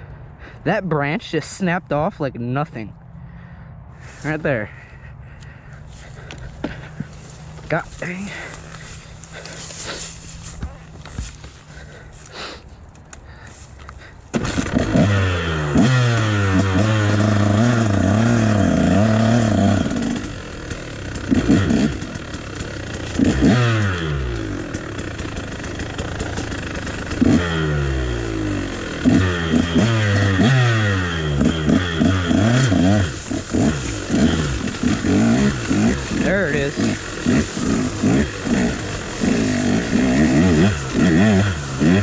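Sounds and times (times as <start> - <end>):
dirt bike engine revving: 4.2 - 12.3, 14.3 - 42.0.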